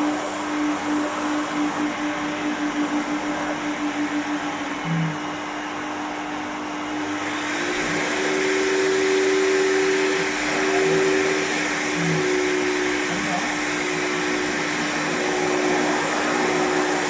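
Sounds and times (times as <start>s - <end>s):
blow dryer running: 0.0s - 17.0s.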